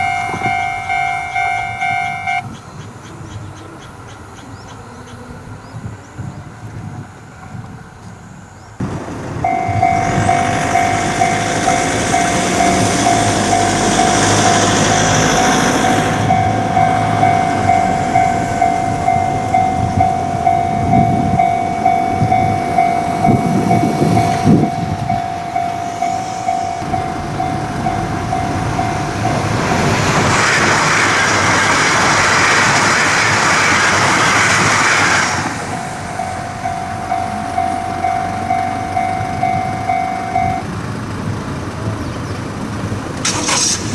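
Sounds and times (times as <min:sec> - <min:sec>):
level crossing warning bell: 0:00.0 - 0:02.6, 0:08.8 - 0:41.7
train rushing past: 0:00.0 - 0:05.6, 0:08.8 - 0:42.0.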